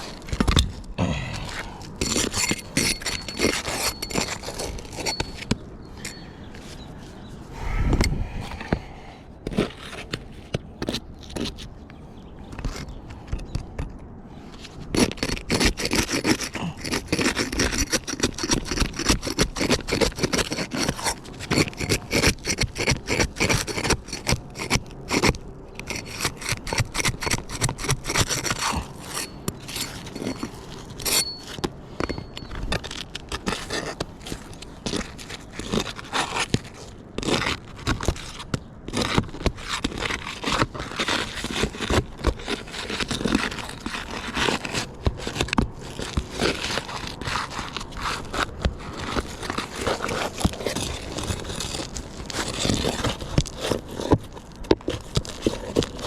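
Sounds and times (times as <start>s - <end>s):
scraping on roofing shingles: 0.0s - 11.8s, 12.4s - 56.0s.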